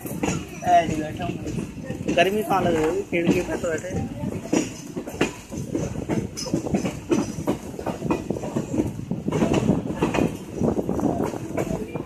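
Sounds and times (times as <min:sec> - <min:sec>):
train coach rattling: 0:00.0 - 0:12.0
train wheels clattering on track: 0:00.0 - 0:12.0.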